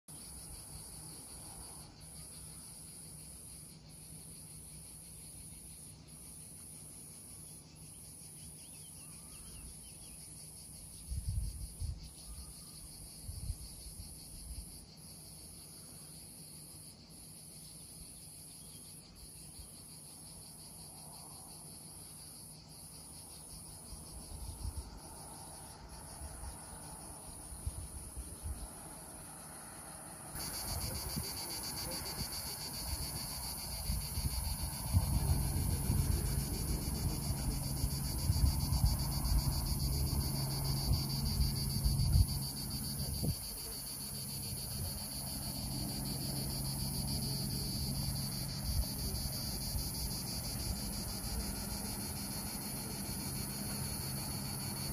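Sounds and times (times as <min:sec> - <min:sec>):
high-pitched insect chorus: 0:00.1 - 0:54.9.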